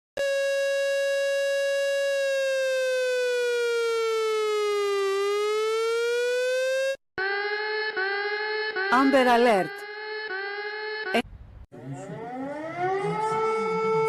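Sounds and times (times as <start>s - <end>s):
buzzy emergency alarm tone: 0.2s - 11.2s, 11.8s - 14.0s.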